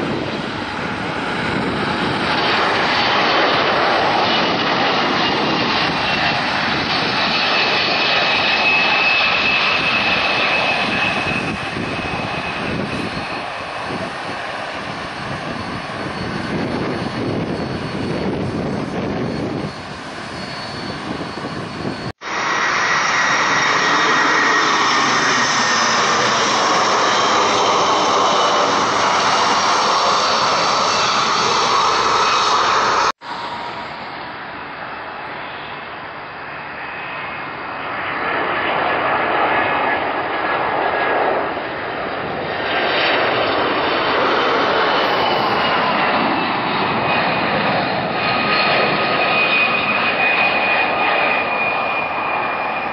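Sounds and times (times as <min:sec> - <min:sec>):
high jet whine: 0:00.0 - 0:52.9
jet airliner landing: 0:00.0 - 0:52.9.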